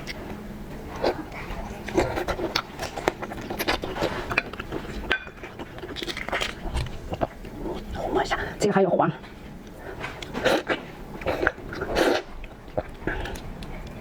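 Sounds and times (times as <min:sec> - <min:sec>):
chewing with wet mouth noises: 0:00.0 - 0:08.6, 0:09.2 - 0:14.0.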